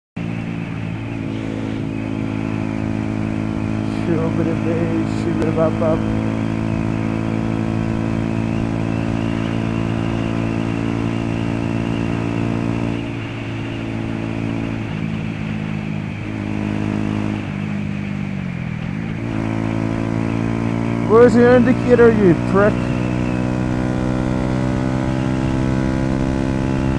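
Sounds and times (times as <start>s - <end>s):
motorcycle engine running: 0.2s - 26.9s.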